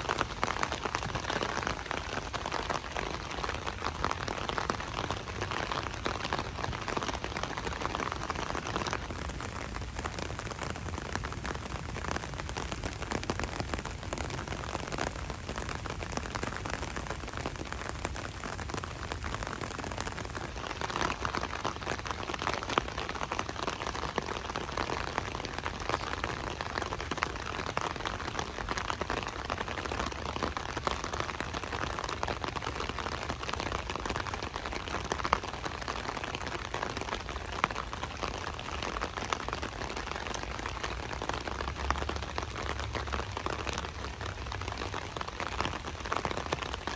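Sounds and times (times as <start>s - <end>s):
light rain pattering: 0.0s - 46.9s.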